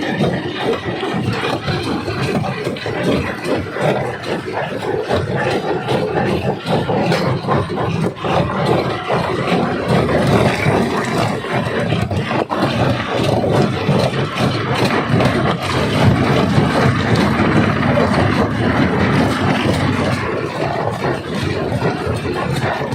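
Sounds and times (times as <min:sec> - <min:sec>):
rock crusher running: 0:00.0 - 0:22.9.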